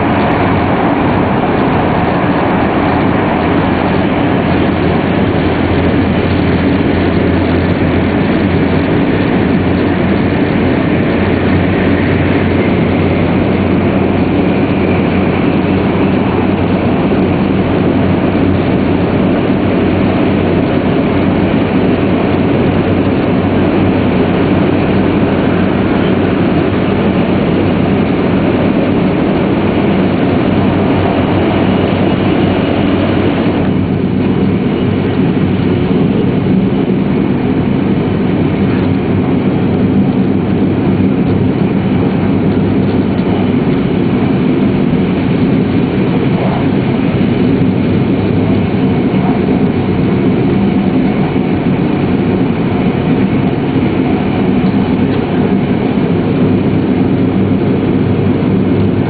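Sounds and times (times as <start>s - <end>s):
train running noise inside cabin: 0.0s - 59.0s.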